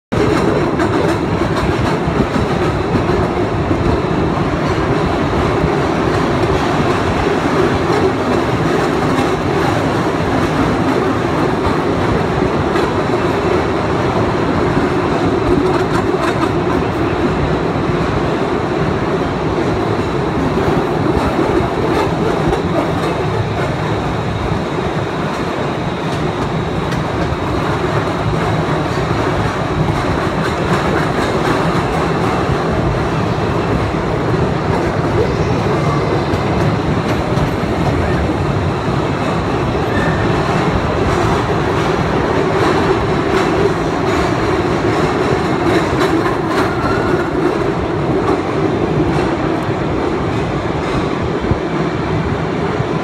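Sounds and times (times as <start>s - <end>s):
train wheels clattering on rails: 0.1s - 53.0s.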